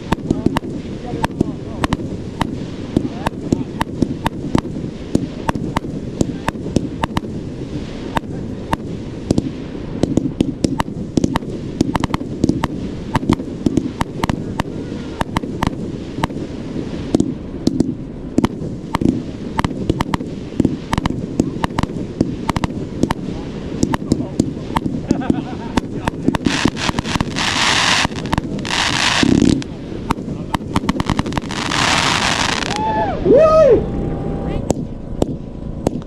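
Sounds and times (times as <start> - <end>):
fireworks firing sharp reports: 0.0 - 33.7
low rumble: 0.0 - 36.0.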